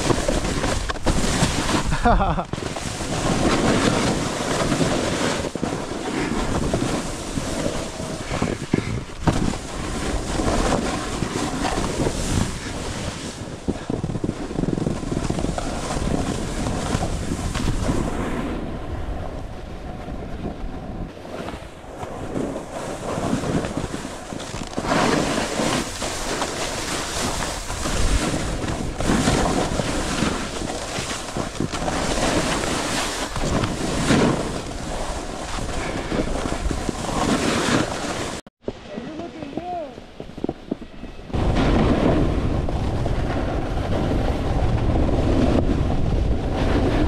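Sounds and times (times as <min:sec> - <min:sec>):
snowboard scraping over snow: 0:00.0 - 0:47.0
wind on microphone: 0:00.0 - 0:47.0.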